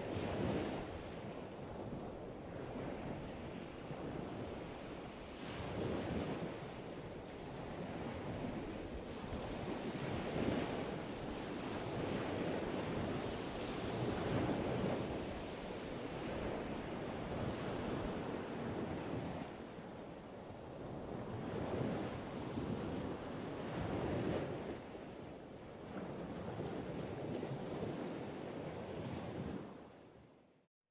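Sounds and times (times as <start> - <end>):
wind buffeting microphone: 0.0 - 30.2.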